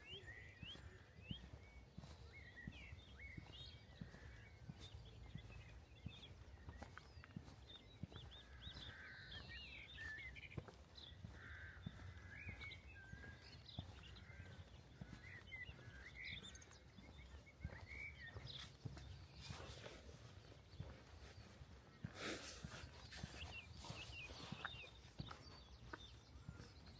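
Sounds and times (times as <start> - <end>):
small birds chirping: 0.0 - 26.9
soft walking footsteps: 0.0 - 26.9.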